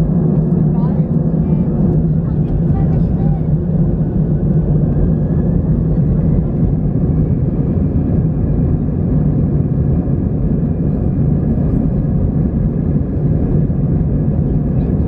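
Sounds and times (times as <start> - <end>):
airplane cabin engine hum: 0.0 - 15.0.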